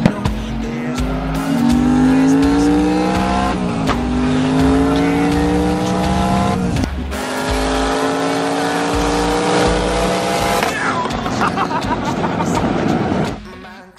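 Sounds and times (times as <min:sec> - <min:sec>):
car engine accelerating: 0:00.0 - 0:13.4.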